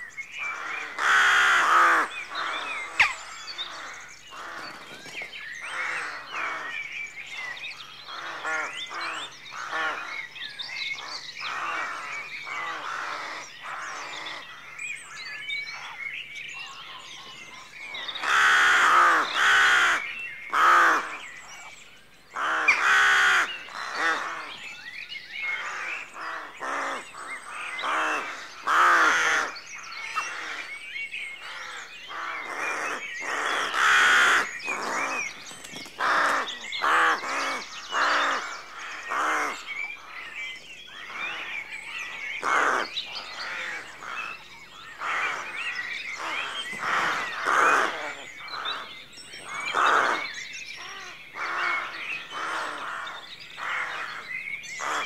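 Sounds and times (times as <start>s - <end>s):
small birds chirping: 0.0s - 55.0s
rooks cawing: 0.4s - 5.0s, 5.6s - 6.8s, 7.4s - 10.3s, 11.0s - 14.8s, 18.0s - 21.2s, 22.3s - 24.7s, 25.4s - 55.0s.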